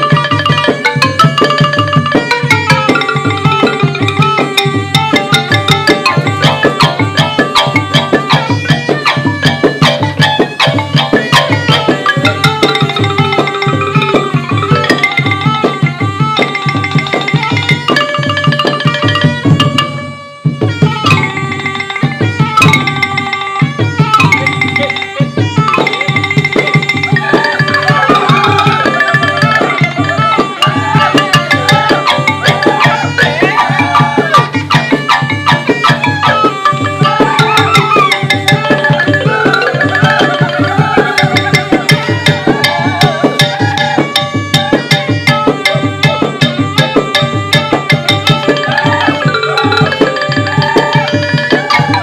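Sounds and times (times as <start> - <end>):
traditional music with hand drum: 0.0 - 52.0.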